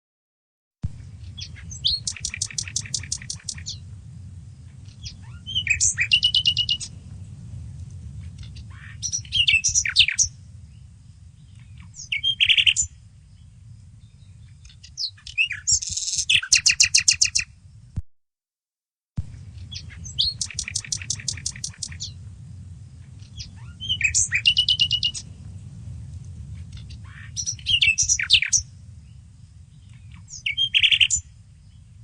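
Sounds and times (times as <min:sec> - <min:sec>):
steady low rumble: 0:00.8 - 0:18.0, 0:19.2 - 0:32.0
nightingale singing: 0:01.0 - 0:03.9, 0:04.6 - 0:07.1, 0:08.2 - 0:17.7, 0:19.2 - 0:25.4, 0:26.6 - 0:32.0.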